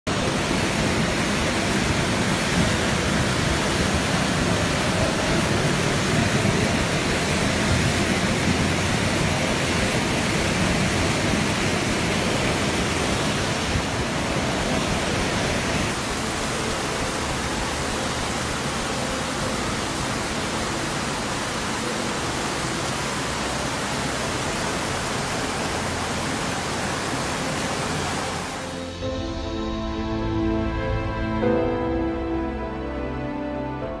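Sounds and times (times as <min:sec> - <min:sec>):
floodwater rushing: 0:00.1 - 0:34.0.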